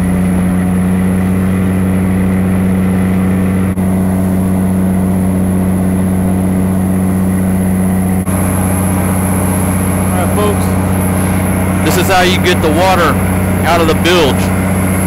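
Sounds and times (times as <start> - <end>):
boat engine droning: 0.0 - 15.0
water rushing past hull: 0.0 - 15.0.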